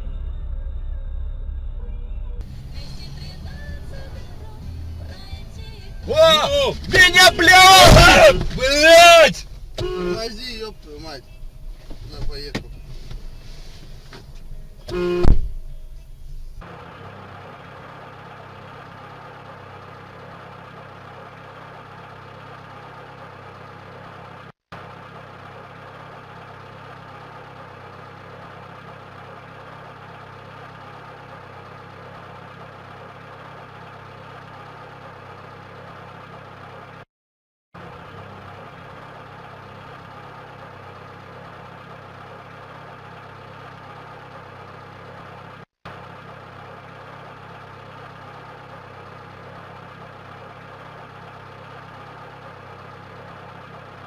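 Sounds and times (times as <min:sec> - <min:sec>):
vehicle engine humming: 0:00.0 - 0:37.1, 0:37.8 - 0:54.0.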